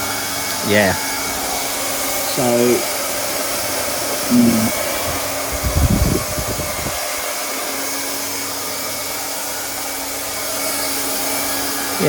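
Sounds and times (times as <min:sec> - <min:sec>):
fan motor blowing: 0:00.0 - 0:12.0.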